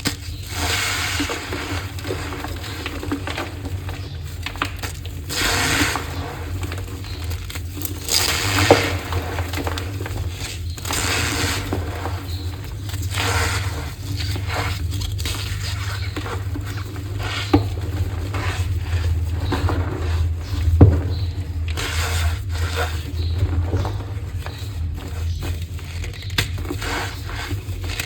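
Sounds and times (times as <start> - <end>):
chalk crushing and crunching: 0.0 - 28.0.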